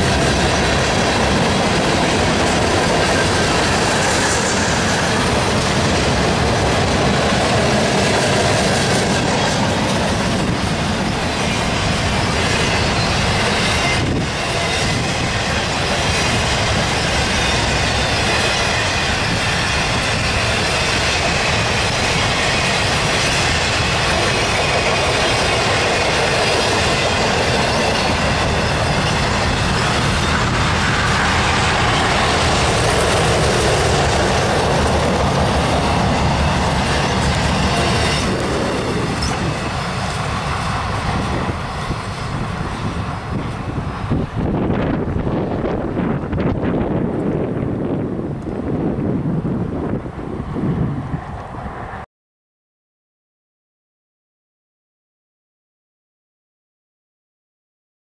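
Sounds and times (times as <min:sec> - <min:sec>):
train wheels rushing on rails: 0:00.0 - 0:52.0.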